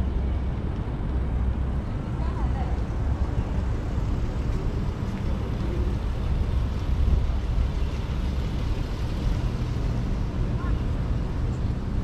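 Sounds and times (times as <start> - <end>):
city background rumble: 0.0 - 12.0.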